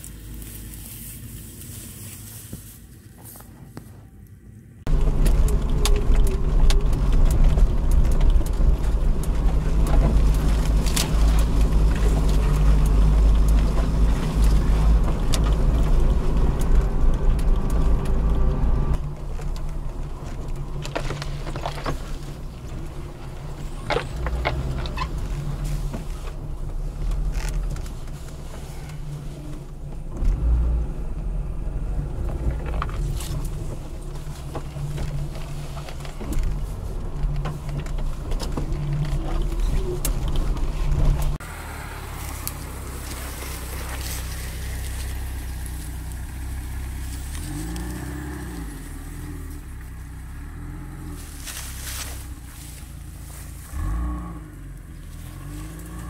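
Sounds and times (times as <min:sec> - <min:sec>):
branches scraping against car: 0:00.0 - 0:04.0, 0:04.9 - 0:56.0
car engine running: 0:04.9 - 0:56.0.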